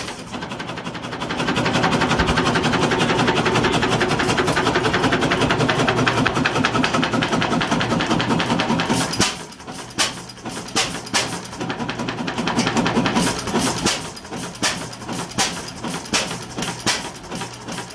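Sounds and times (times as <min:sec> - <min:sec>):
hit-and-miss engine firing: 0:00.0 - 0:17.2.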